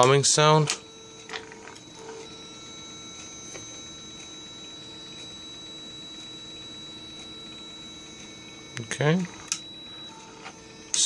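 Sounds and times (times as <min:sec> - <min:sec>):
throttle actuator humming: 0:00.0 - 0:11.0.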